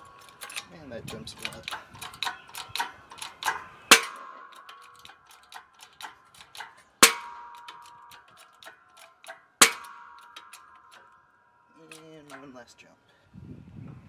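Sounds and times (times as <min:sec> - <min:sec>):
light metal ticks and clicks: 0:00.0 - 0:13.0
sharp metallic bangs: 0:00.0 - 0:13.0.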